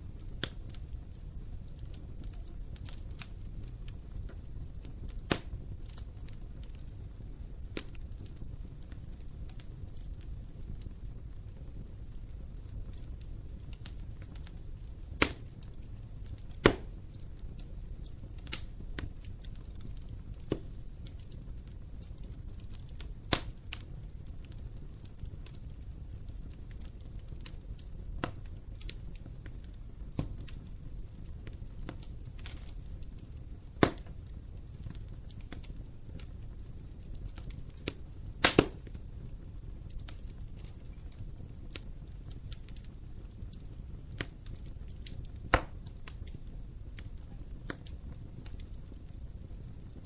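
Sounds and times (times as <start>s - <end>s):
low flame rumble: 0.0s - 50.0s
wood fire crackling and popping: 0.0s - 50.0s.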